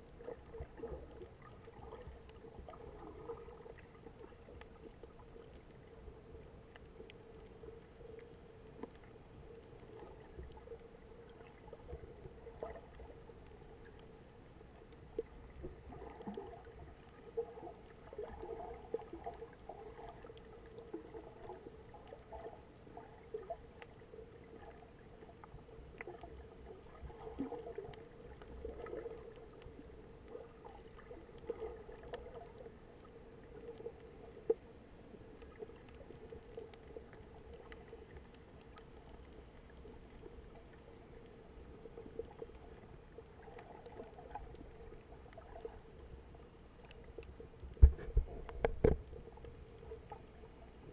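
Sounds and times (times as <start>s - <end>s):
faint underwater hum: 0.0s - 50.9s
muffled water movement: 0.0s - 50.9s
small underwater clicks and crackles: 0.0s - 50.9s.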